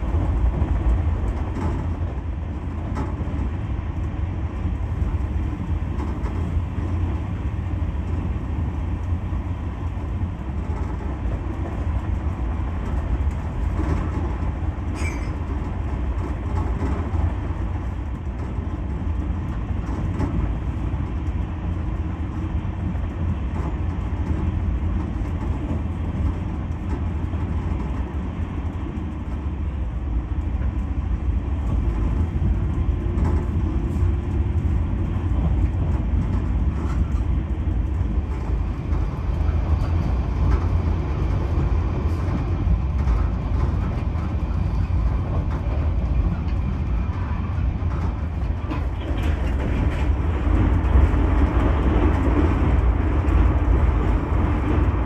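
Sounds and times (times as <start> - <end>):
train coach rumble and rail noise: 0.0 - 55.0
train passing on adjacent track: 0.0 - 55.0.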